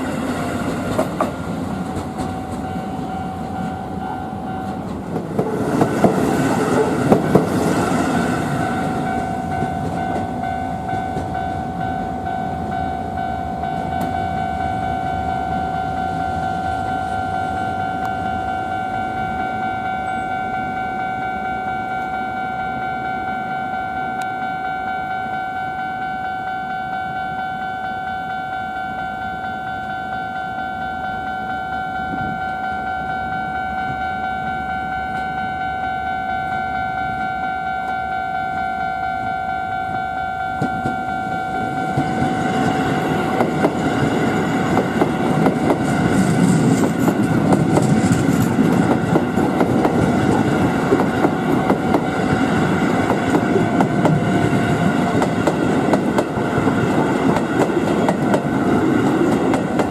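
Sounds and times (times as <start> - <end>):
rail rumble: 0.0 - 23.4, 33.1 - 59.9
electric train whine: 0.0 - 59.9.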